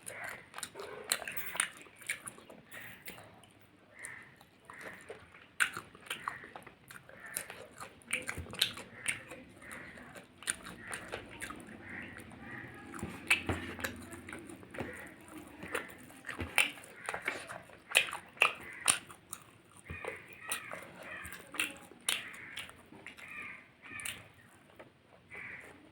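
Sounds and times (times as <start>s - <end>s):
wet mouth clicks and smacks: 0.0s - 3.3s, 4.7s - 12.0s, 13.0s - 23.3s
person chewing food: 0.0s - 25.9s.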